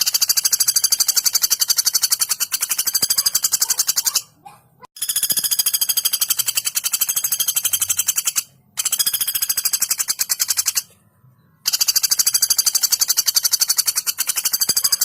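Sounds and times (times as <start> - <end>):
woodpecker rattle call: 0.0 - 4.4, 5.0 - 10.9, 11.6 - 15.0.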